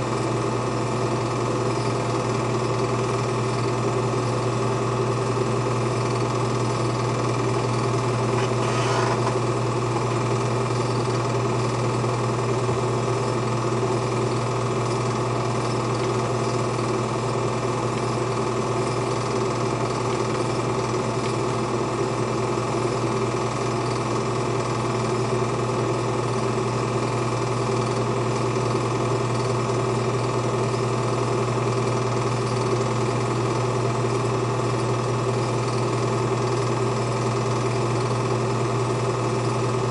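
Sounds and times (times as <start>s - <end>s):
film projector clatter: 0.0s - 39.9s
projector motor hum: 0.0s - 39.9s.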